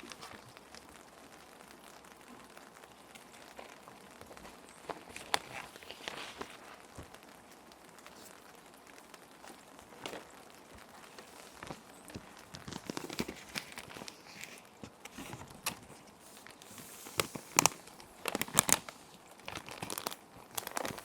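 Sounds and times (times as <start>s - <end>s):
plastic sheets crinkling: 0.0s - 1.1s, 3.0s - 21.0s
rain hiss: 0.0s - 21.0s.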